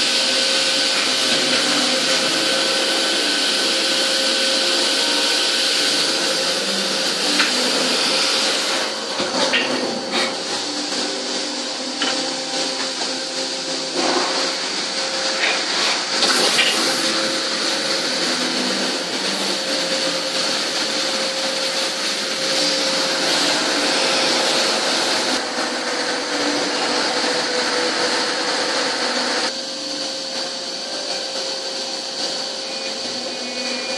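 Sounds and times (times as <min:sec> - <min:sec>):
coolant spraying hiss: 0:00.0 - 0:33.9
lathe machine whine: 0:00.0 - 0:33.9.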